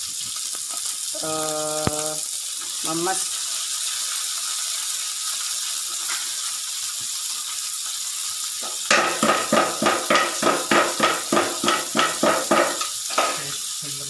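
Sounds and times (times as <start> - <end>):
paste sizzling in a wok: 0.0 - 14.0.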